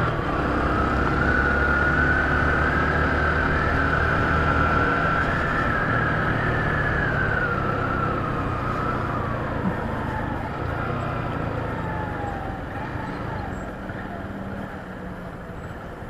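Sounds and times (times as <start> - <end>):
motorcycle engine whining: 0.0 - 16.0.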